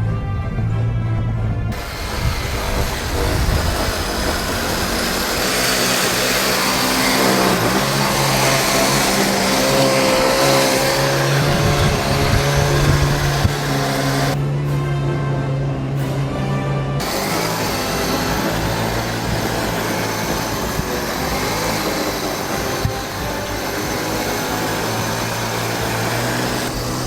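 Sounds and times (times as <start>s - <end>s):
background music: 0.0s - 27.0s
small engine running: 1.7s - 14.7s, 17.0s - 27.0s.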